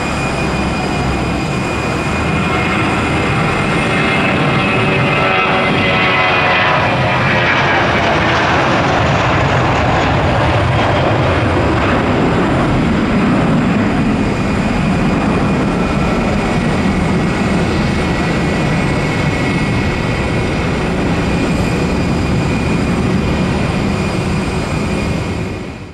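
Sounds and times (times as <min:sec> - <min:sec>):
jet engines roaring: 0:00.0 - 0:25.9.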